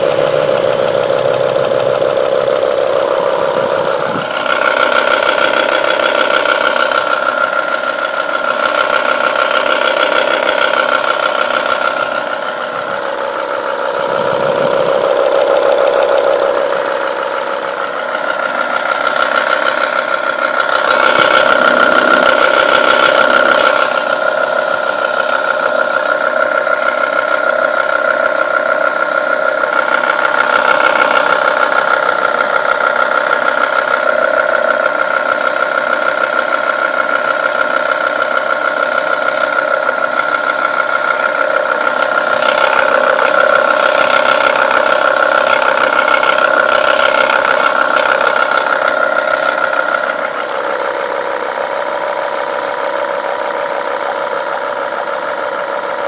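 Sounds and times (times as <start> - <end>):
car engine idling with clatter: 0.0 - 56.0.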